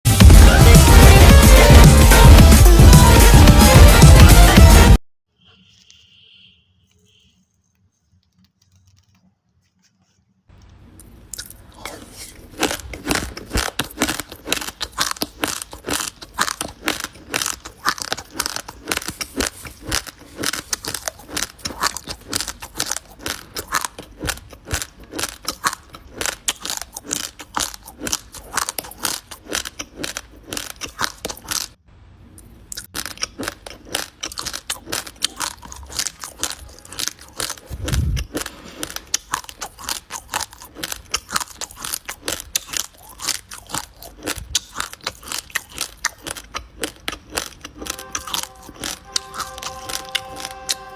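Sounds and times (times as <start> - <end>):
crunching raw rice grains: 7.5 - 31.8, 32.7 - 50.9.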